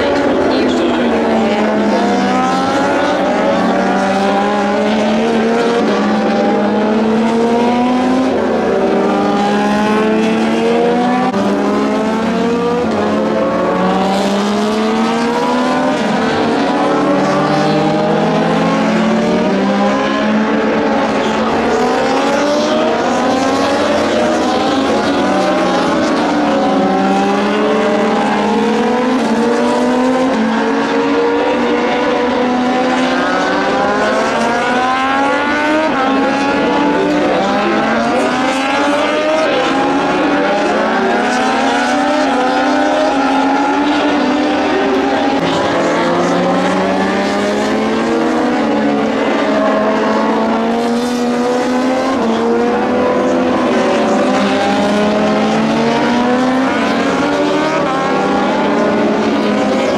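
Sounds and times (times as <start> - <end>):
race motorcycles accelerating: 0.0 - 59.9.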